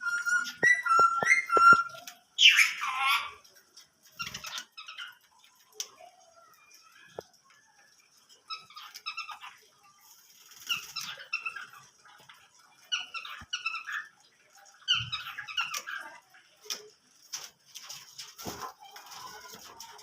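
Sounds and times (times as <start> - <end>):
cage birds chirping: 0.0 - 20.0.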